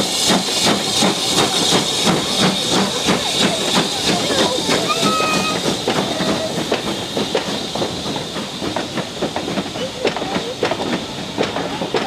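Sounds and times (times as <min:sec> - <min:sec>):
locomotive steam hissing: 0:00.0 - 0:12.0
train wheels clicking over rail joints: 0:00.0 - 0:12.0.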